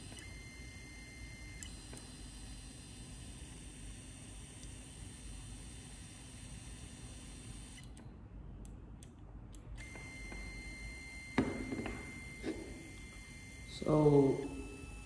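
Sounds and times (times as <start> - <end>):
stepper motor whine: 0.0 - 8.0, 9.8 - 15.0.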